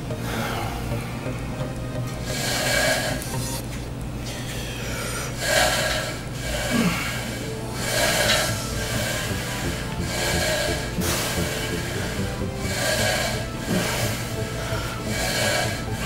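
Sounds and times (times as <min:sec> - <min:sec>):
gym cable machine rushing swells: 0:00.0 - 0:03.5, 0:05.3 - 0:16.0
steady low hum: 0:00.0 - 0:16.0.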